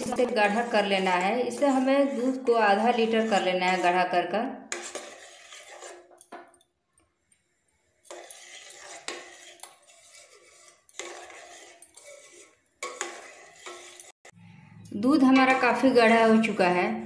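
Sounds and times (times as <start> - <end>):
metal spoon scraping a pot: 0.0 - 16.8.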